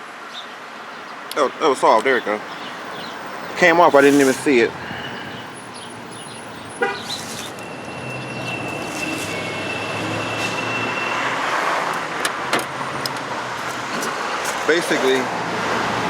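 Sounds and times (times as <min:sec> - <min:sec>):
road vehicle passing: 0:00.2 - 0:16.0.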